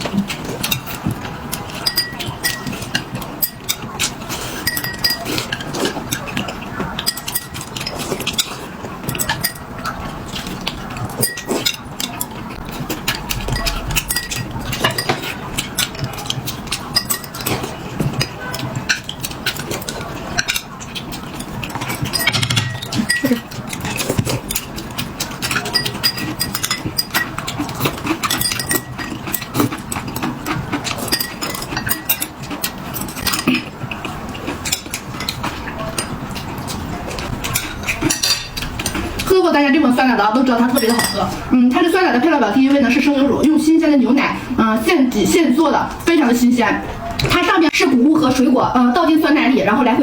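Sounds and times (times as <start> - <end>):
utensils clinking on dishes: 0.0 - 50.0.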